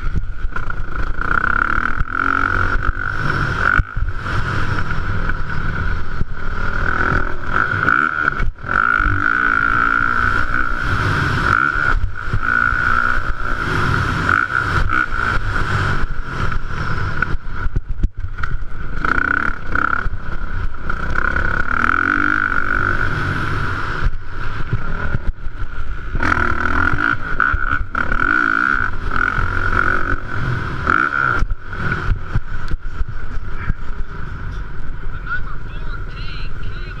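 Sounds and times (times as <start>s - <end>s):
motocross bikes revving: 0.0s - 37.0s.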